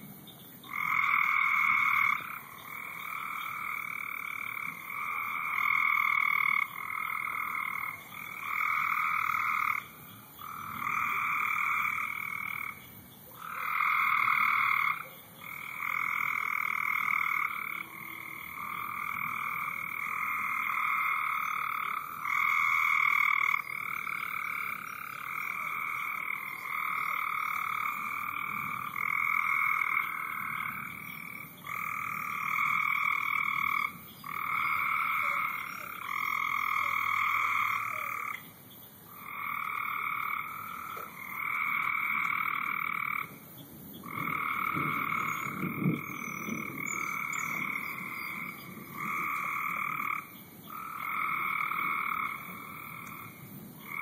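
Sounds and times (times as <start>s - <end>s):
frogs trilling: 0.0s - 54.0s.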